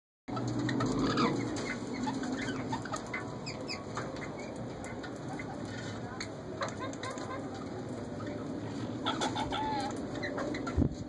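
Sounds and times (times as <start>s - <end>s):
birds chirping: 0.3s - 11.0s.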